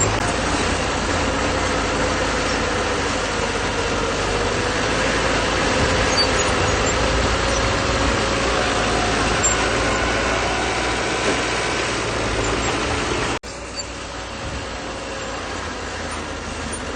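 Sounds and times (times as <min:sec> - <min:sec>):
diesel machinery running: 0:00.0 - 0:16.9.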